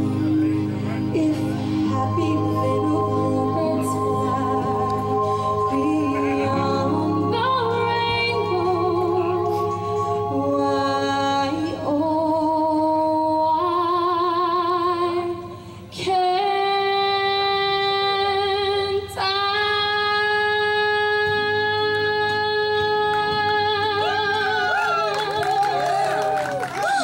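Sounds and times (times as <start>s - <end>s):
woman singing through speaker: 0.0s - 26.3s.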